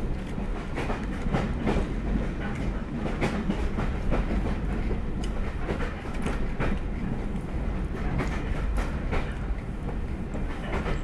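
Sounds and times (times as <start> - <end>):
train rumbling along track: 0.0 - 11.0
wheels clicking on rails: 0.0 - 11.0.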